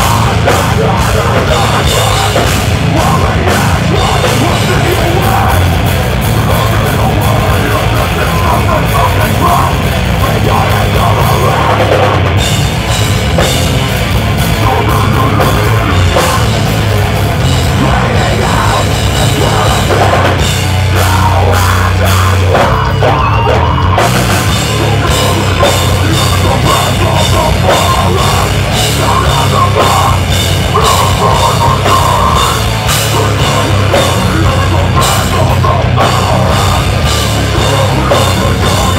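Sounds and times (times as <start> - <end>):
distorted electric guitars and bass: 0.0 - 38.9
pounding drum kit: 0.0 - 38.9.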